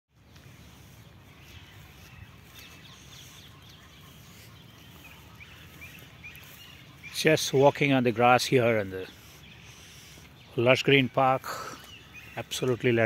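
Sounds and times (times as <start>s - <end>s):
songbirds chirping: 0.1s - 13.0s.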